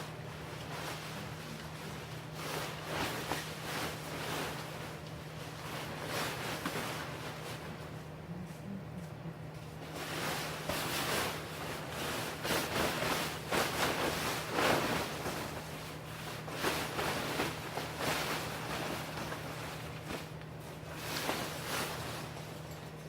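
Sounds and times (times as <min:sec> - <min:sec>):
tent fabric rustling: 0:00.0 - 0:08.0, 0:09.8 - 0:22.7
steady low hum: 0:00.0 - 0:23.0.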